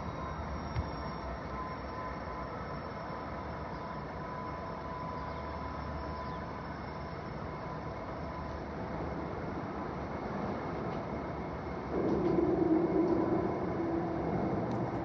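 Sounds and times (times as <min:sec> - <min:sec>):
faint steady whine: 0:00.0 - 0:15.0
train rumbling on rails: 0:00.0 - 0:15.0.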